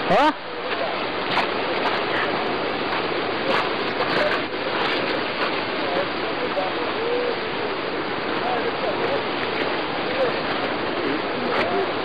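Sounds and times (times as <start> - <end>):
faint voices: 0.0 - 12.0
running water rushing: 0.0 - 12.0.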